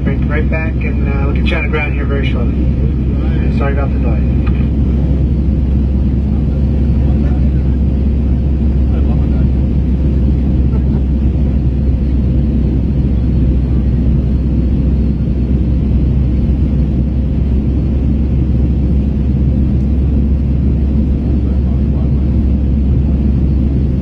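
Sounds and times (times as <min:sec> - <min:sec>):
jet engines rumbling in cabin: 0:00.0 - 0:24.0.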